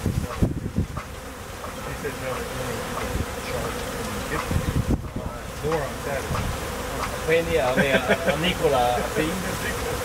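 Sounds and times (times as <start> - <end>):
bee swarm buzzing: 0.0 - 10.0.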